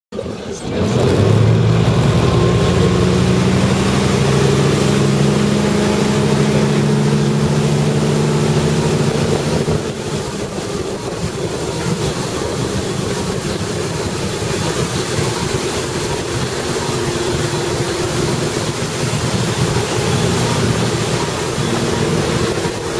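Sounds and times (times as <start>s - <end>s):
boat engine drone: 0.2s - 22.9s
rushing wake and spray: 0.2s - 22.9s.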